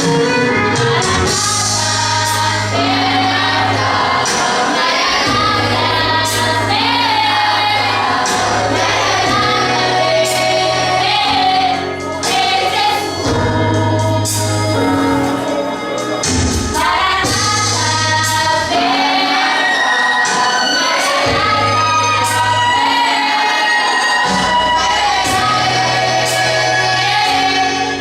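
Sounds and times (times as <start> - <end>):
instrumental backing with bass: 0.0 - 28.0
vocal group singing gospel: 0.7 - 28.0.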